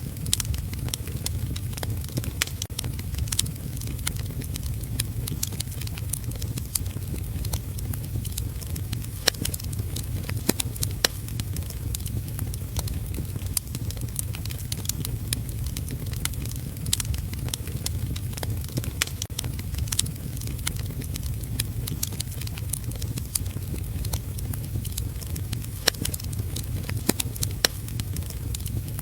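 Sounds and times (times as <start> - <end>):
low rumble: 0.0 - 29.0
wood fire crackling and popping: 0.0 - 29.0.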